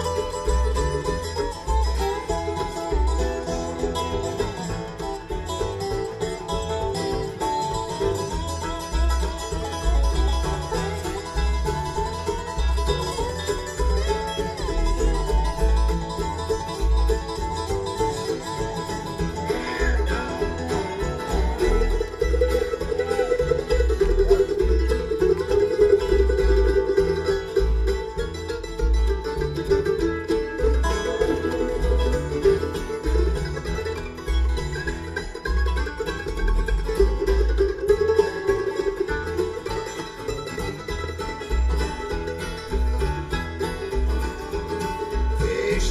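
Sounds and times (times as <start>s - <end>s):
instrumental bluegrass music: 0.0s - 45.9s.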